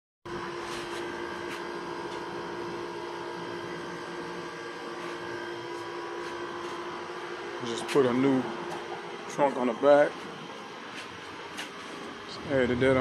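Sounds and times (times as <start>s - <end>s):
steady hum: 0.3s - 13.0s.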